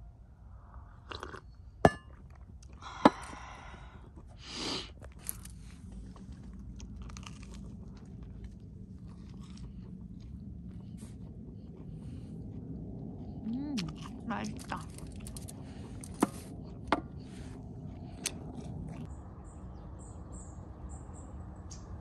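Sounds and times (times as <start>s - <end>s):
crunchy chewing: 1.0s - 2.8s, 3.4s - 19.2s.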